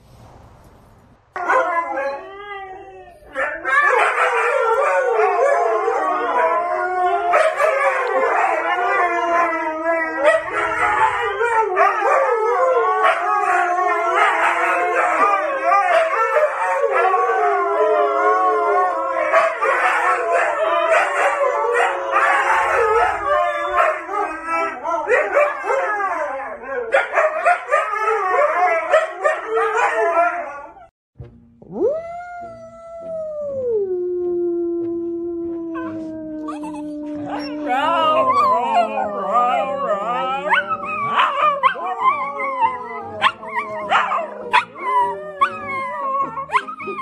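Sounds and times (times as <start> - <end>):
dogs howling together: 1.4 - 30.9, 31.7 - 47.0.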